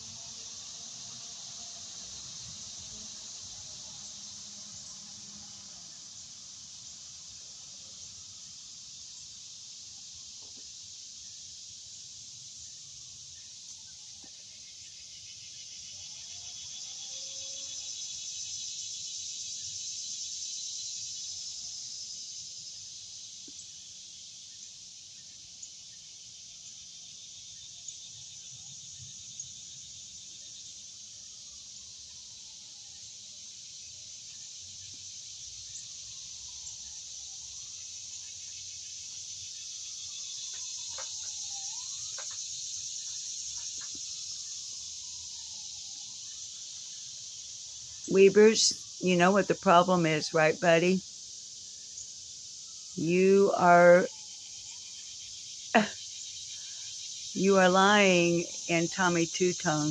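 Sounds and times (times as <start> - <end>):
insect chorus buzzing: 0.0 - 59.9.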